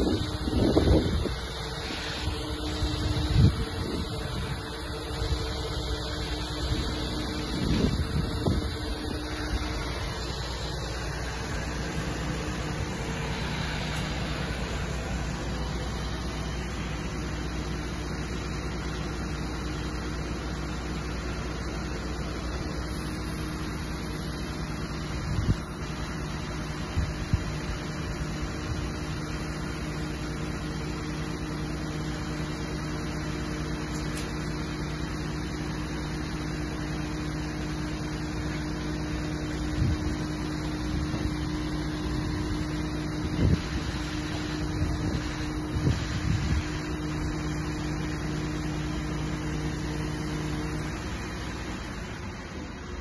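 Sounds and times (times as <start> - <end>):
crane engine humming: 0.0 - 53.0.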